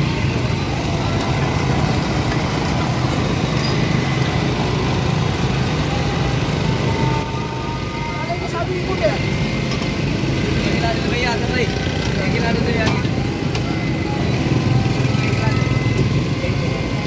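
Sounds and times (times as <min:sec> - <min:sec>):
street stall bustle: 0:00.0 - 0:17.0.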